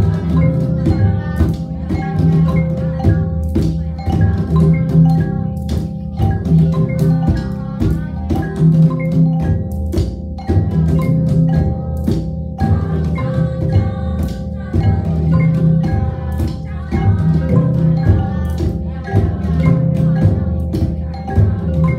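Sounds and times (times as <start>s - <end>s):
mallet instrument notes: 0.0s - 21.9s
ringing low drum tones: 0.0s - 21.9s.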